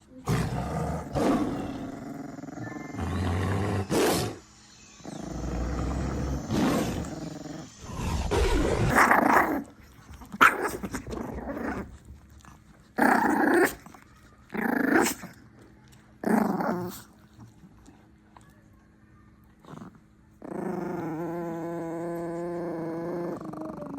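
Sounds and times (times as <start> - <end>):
small dogs growling: 0.0 - 18.0, 19.5 - 23.9.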